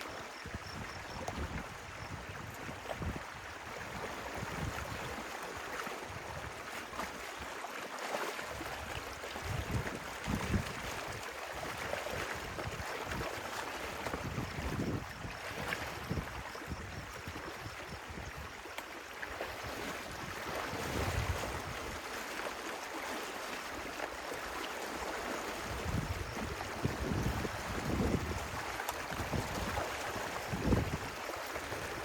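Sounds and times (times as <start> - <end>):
stream water flowing and splashing: 0.0 - 32.0.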